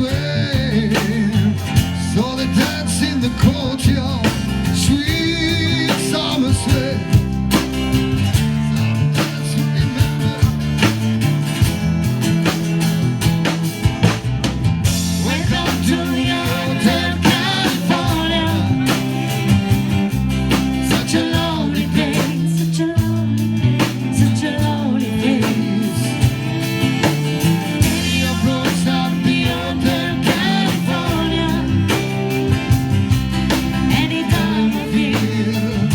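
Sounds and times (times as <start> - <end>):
song with guitar and drums: 0.0 - 35.9.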